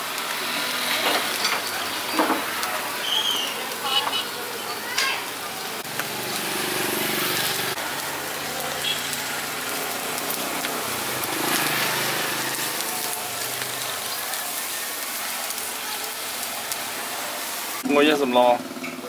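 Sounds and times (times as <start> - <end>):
food sizzling with crackles and pops: 0.0 - 19.0.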